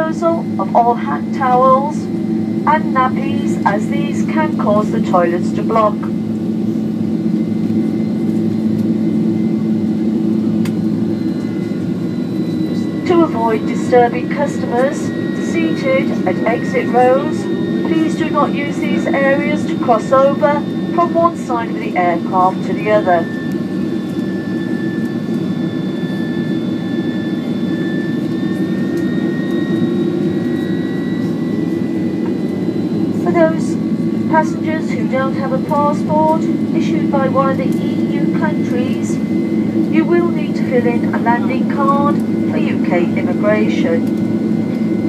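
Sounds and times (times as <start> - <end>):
airliner cabin drone: 0.0 - 45.0.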